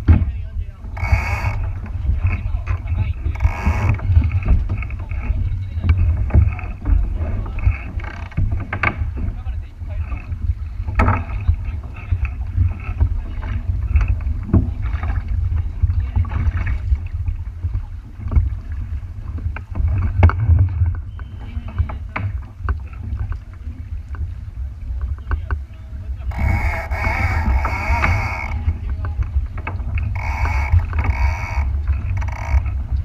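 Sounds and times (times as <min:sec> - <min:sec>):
boat engine rumble: 0:00.0 - 0:33.0
knocks and water splashes: 0:00.0 - 0:33.0.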